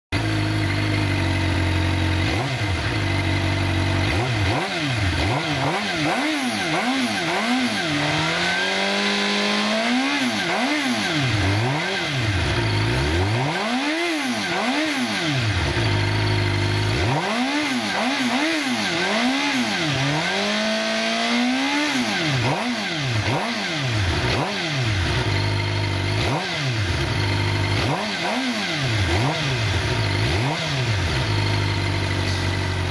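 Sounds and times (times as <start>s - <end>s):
motorcycle engine revving: 0.2s - 32.9s.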